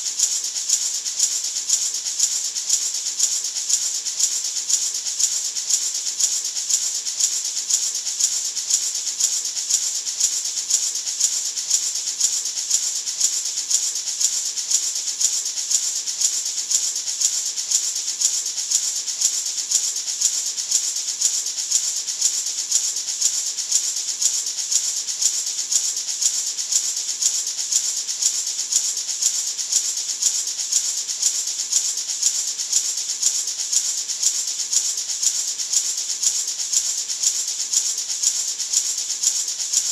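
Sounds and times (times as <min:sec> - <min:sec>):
maraca shaken rhythmically: 0:00.0 - 0:39.9.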